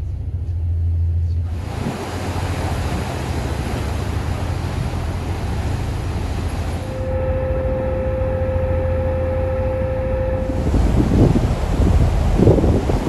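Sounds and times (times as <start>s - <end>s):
ferry engines droning: 0.0s - 13.0s
wind and sea water rush: 1.5s - 13.0s.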